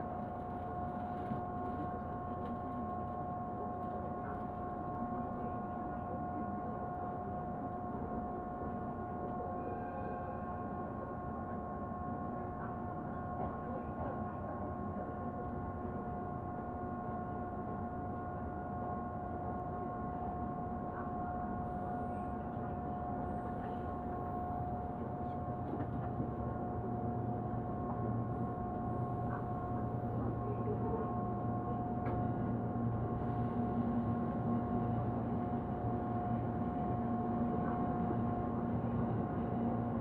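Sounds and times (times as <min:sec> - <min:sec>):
train car hum and rumble: 0:00.0 - 0:40.0.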